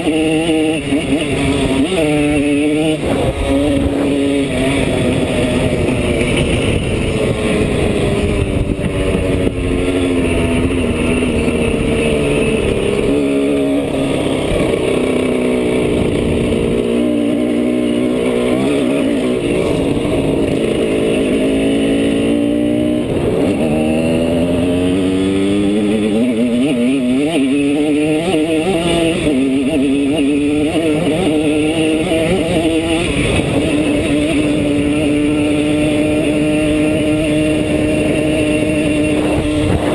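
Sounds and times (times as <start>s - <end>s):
two-stroke motorcycle engine revving: 0.0s - 39.9s
wind rumble on microphone: 0.0s - 39.9s.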